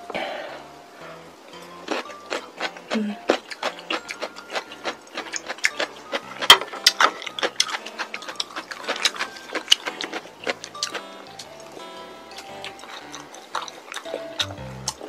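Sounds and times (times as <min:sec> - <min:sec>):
crunchy chicken being chewed: 0:01.6 - 0:15.0.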